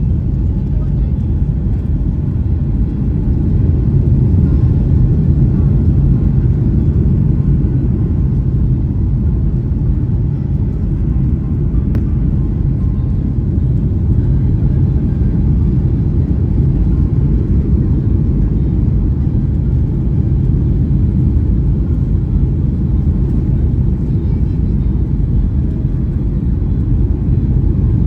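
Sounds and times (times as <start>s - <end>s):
airliner rumble in flight: 0.0s - 28.0s.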